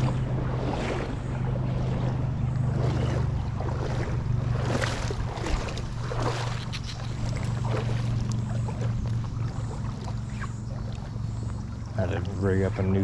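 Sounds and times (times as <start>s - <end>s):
creek water splashing: 0.0s - 13.0s
steady low hum: 0.0s - 13.0s.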